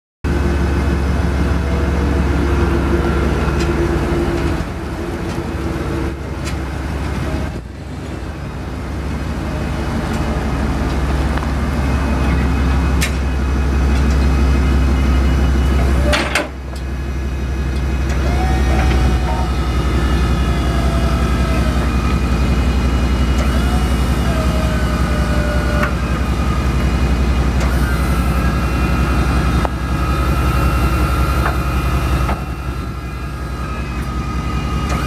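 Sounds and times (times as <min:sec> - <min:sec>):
truck engine running: 0:00.2 - 0:35.0.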